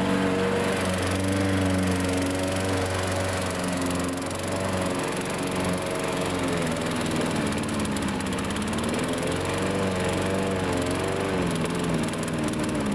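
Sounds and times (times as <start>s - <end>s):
small lawn mower engine running: 0.0s - 12.9s.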